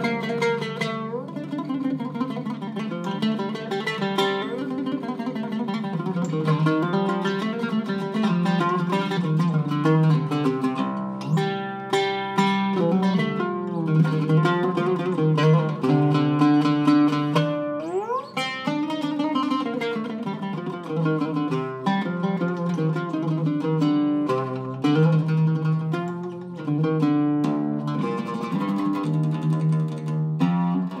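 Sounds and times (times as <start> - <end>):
oud played with a plectrum: 0.0 - 31.0.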